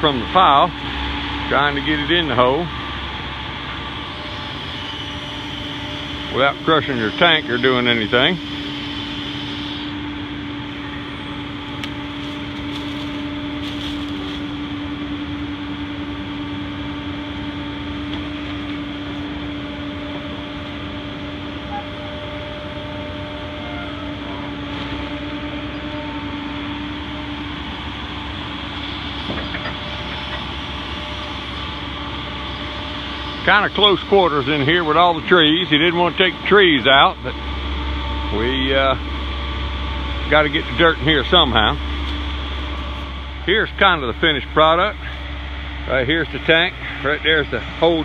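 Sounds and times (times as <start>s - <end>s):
excavator diesel engine running: 0.0s - 48.0s
steady hum: 0.0s - 48.0s.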